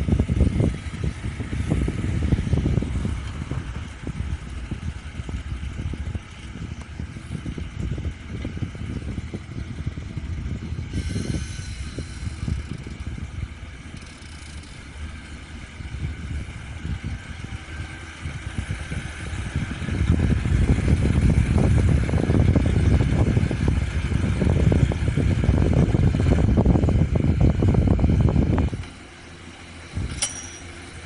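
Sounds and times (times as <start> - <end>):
high mechanical whine: 0.0 - 31.0
tractor diesel engine under load: 0.0 - 31.0.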